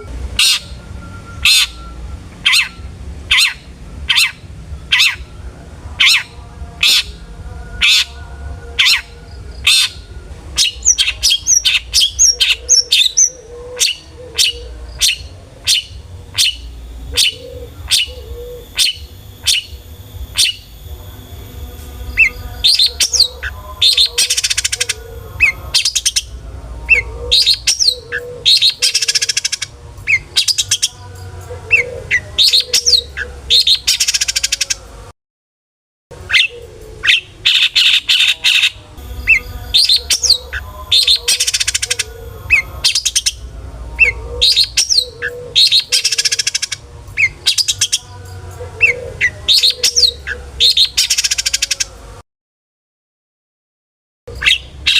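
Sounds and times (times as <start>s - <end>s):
shrike singing: 0.0s - 35.1s, 36.1s - 52.2s, 54.3s - 54.9s.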